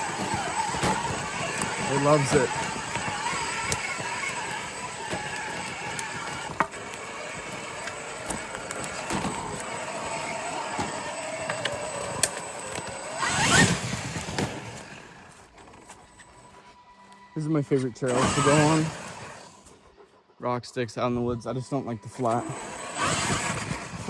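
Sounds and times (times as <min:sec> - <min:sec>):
electric motor whine: 0:00.0 - 0:17.2, 0:18.0 - 0:19.8, 0:22.0 - 0:24.0.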